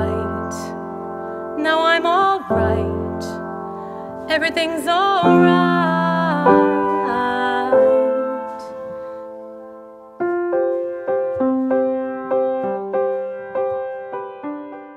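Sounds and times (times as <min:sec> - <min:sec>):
soft piano chords: 0:00.0 - 0:14.9.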